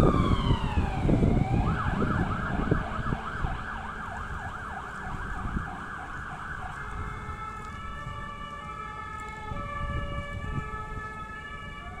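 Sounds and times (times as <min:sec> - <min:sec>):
engine and traffic rumble: 0:00.0 - 0:12.0
fire engine siren: 0:00.0 - 0:12.0.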